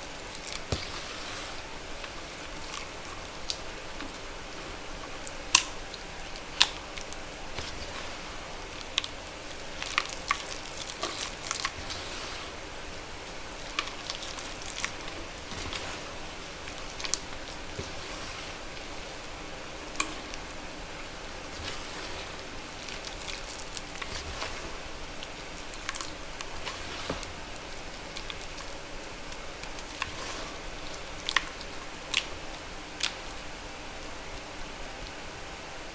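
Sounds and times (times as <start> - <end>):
wet chalk crackling and popping: 0.0 - 33.5.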